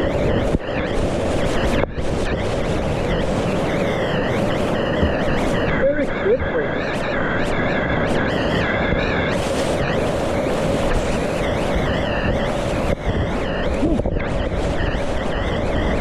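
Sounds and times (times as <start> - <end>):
whitewater rushing: 0.0 - 16.0
wind noise on microphone: 0.0 - 16.0.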